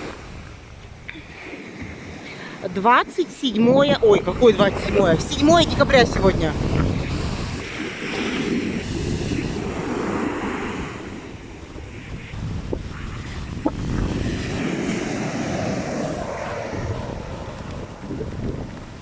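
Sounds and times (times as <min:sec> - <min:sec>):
rough sea surf: 0:00.0 - 0:19.0
wind buffeting microphone: 0:00.0 - 0:19.0.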